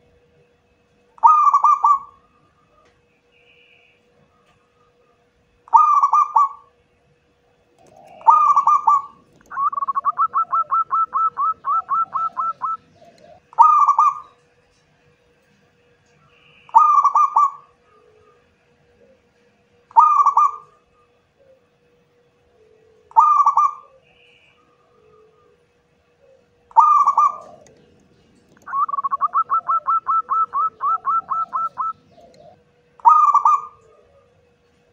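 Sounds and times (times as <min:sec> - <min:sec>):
dove cooing: 0:01.2 - 0:03.0, 0:04.2 - 0:06.8, 0:07.5 - 0:14.4, 0:16.4 - 0:34.9.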